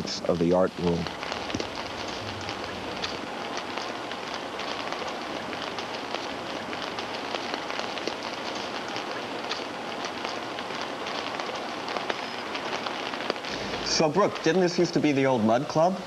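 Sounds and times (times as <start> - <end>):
patter of raindrops: 0.0 - 16.0
steady rain hiss: 0.0 - 16.0.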